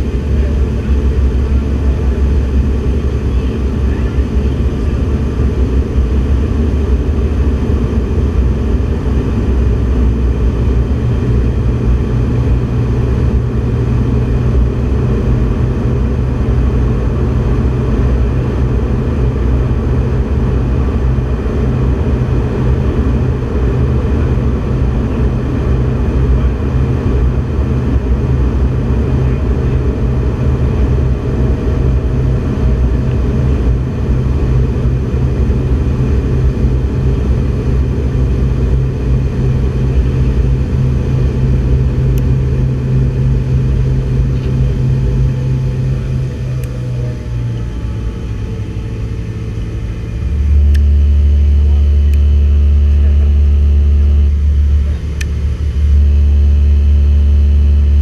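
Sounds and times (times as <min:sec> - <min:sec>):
jet aircraft cabin rumble: 0:00.0 - 0:58.0
low hum: 0:00.0 - 0:58.0.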